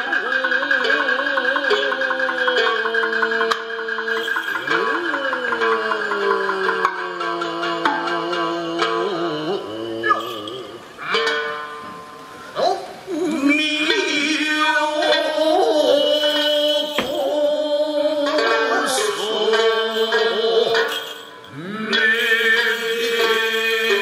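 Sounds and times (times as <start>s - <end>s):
person chanting long notes: 0.0s - 24.0s
plucked string notes: 0.0s - 24.0s.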